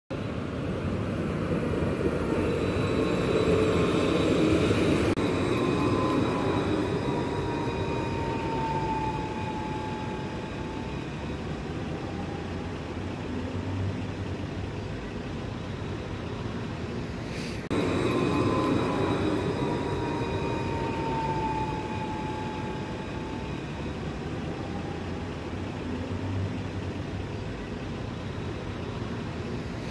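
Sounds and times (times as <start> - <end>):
tram passing with rail rumble: 0.1 - 29.9
tram whine falling in pitch: 0.2 - 14.5, 16.6 - 27.8.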